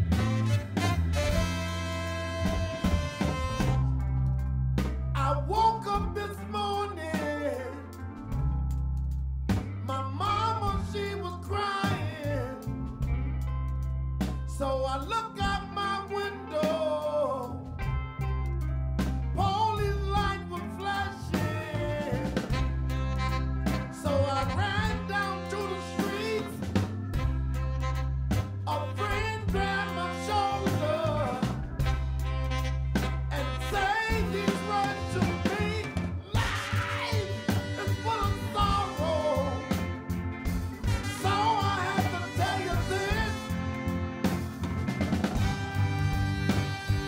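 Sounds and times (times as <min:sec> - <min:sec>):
live soul band: 0:00.0 - 0:47.0
sustained bass notes: 0:00.0 - 0:47.0
man singing soul: 0:00.1 - 0:04.0, 0:05.1 - 0:08.4, 0:09.8 - 0:13.0, 0:14.5 - 0:17.9, 0:19.3 - 0:44.3.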